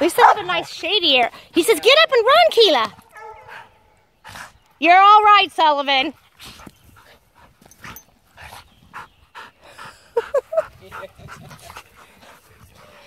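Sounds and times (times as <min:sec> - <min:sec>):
dogs panting and huffing: 0:00.0 - 0:04.8, 0:06.0 - 0:13.0.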